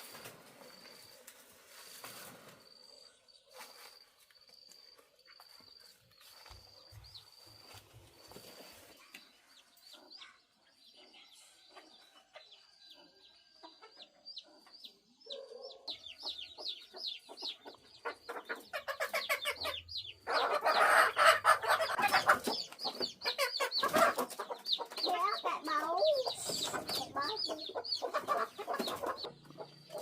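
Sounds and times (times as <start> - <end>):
chickens calling: 5.4 - 30.0.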